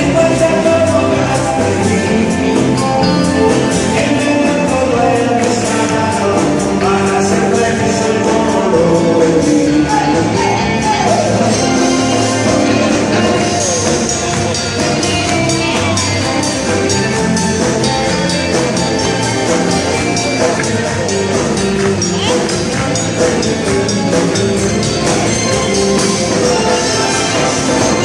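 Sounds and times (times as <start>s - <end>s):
band playing with steady beat: 0.0s - 28.0s
jingling tambourine-like percussion: 0.0s - 28.0s.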